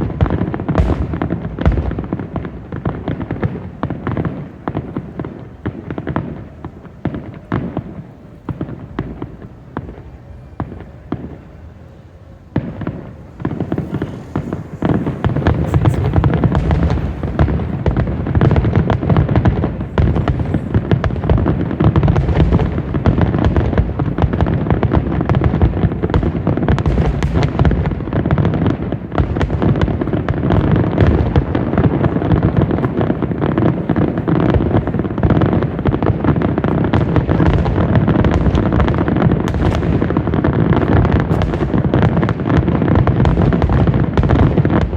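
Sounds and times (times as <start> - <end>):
fireworks bangs and booms: 0.0 - 44.9.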